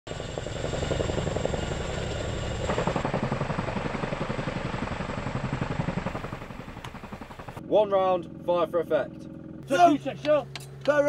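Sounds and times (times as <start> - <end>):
helicopter rotor blades beating: 0.1 - 11.0.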